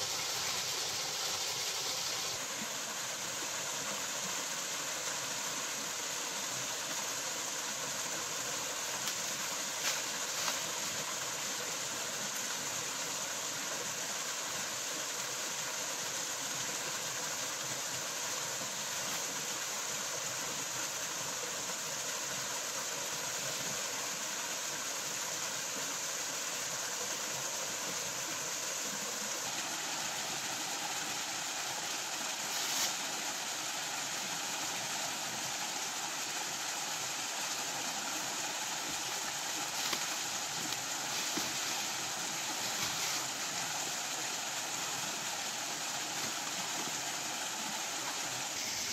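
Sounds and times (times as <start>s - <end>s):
waterfall rushing over rocks: 0.0s - 48.9s.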